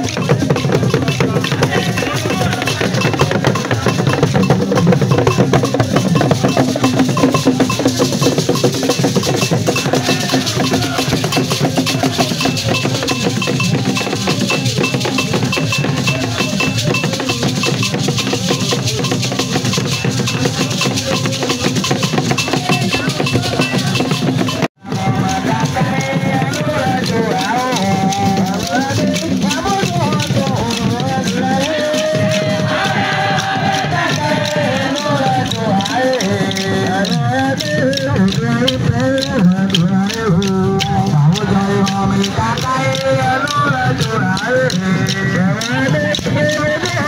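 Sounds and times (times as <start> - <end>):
drumming with struck percussion: 0.0 - 47.0.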